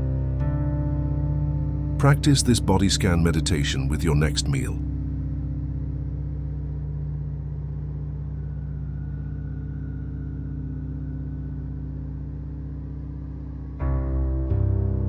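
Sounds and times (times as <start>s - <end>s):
low ambient music drone: 0.0s - 15.0s.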